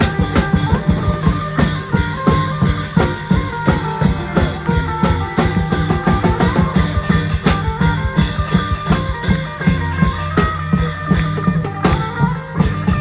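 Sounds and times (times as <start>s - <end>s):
plucked string melody: 0.0s - 13.0s
quick steady drum beats: 0.0s - 13.0s.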